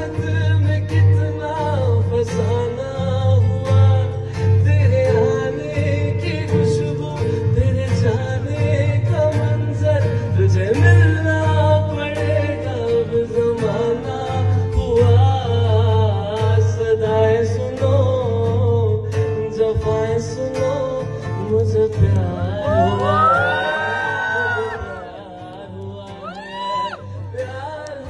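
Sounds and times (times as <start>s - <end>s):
acoustic guitar strumming: 0.0s - 28.0s
man singing into microphone: 0.0s - 28.0s.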